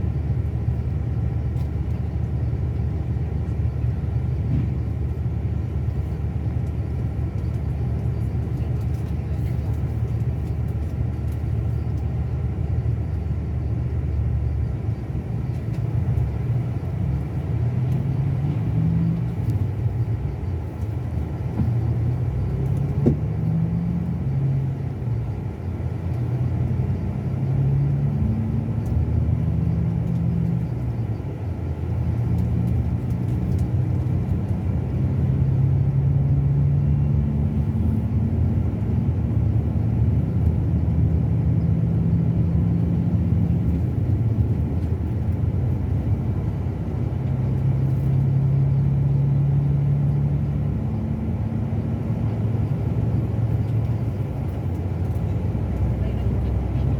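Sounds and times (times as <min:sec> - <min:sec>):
diesel engine rumbling: 0:00.0 - 0:56.9.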